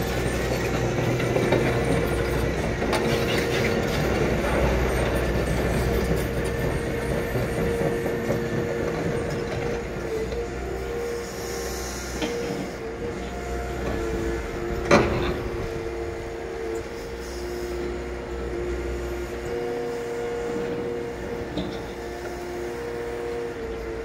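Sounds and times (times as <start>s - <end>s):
excavator engine and hydraulics: 0.0s - 24.0s.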